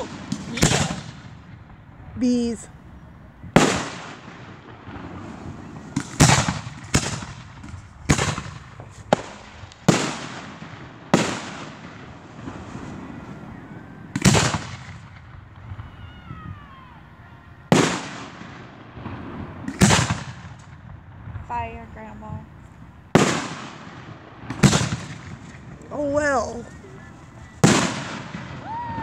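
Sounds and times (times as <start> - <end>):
firework shells booming: 0.0 - 2.7, 3.4 - 29.0.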